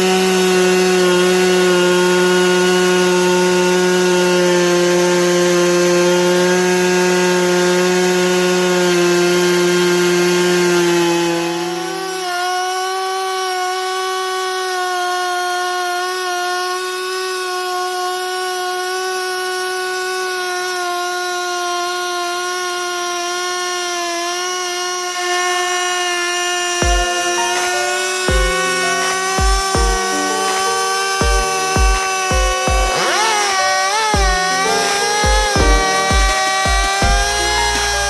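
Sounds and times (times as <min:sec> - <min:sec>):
chainsaw ripping a log: 0:00.0 - 0:38.0.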